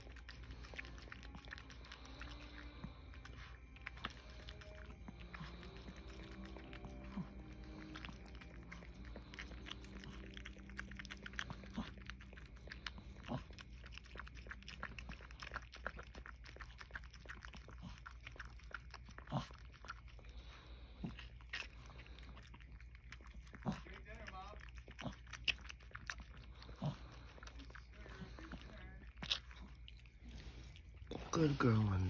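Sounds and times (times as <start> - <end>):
dog licking and chewing: 0.0 - 32.0.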